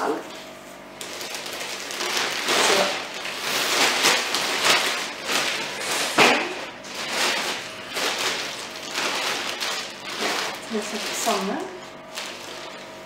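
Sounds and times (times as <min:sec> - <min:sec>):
plastic bags crinkling: 0:00.9 - 0:13.0.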